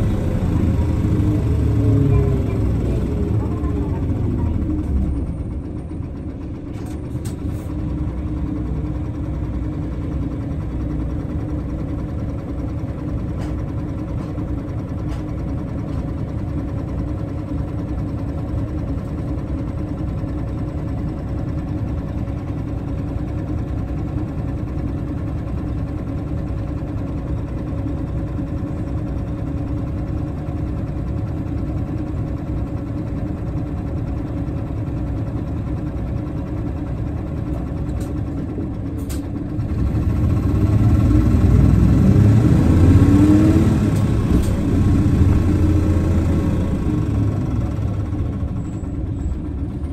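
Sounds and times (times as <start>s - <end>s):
bus diesel engine idling: 0.0s - 49.9s.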